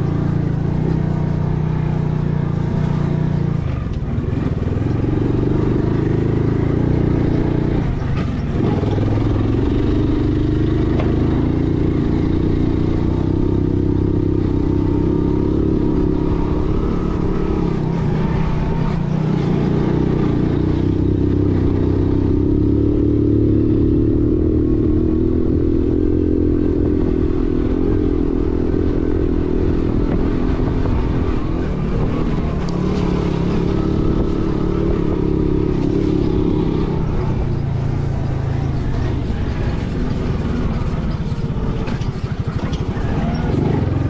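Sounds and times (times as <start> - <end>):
vehicle engine running: 0.0 - 44.0.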